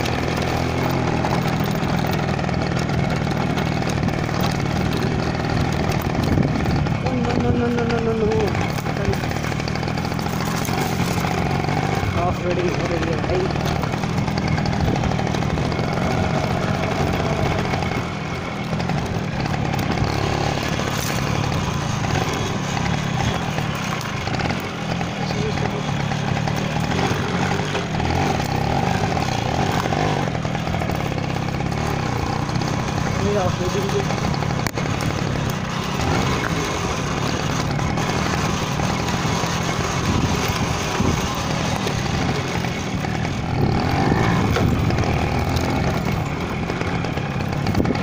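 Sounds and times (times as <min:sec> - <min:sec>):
two-stroke motorcycle engine running: 0:00.0 - 0:48.0.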